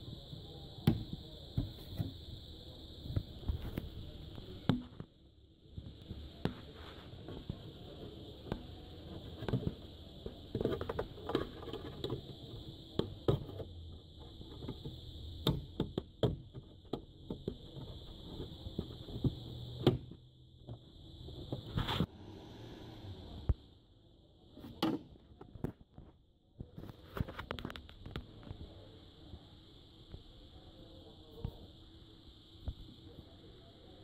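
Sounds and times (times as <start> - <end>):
steady high hiss: 0.0 - 25.0, 26.9 - 34.0.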